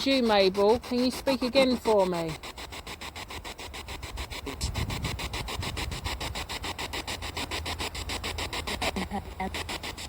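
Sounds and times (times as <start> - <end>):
choppy radio static pulses: 0.0 - 10.0.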